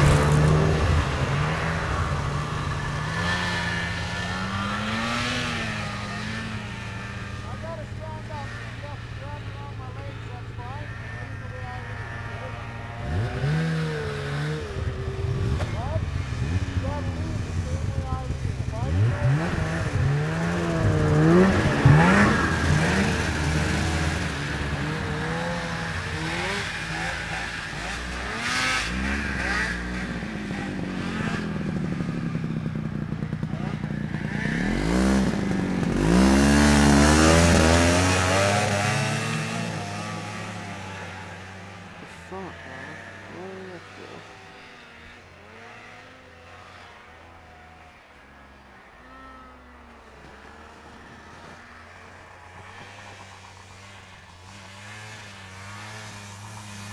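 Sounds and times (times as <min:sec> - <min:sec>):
snowmobile engines revving: 0:00.0 - 0:56.9.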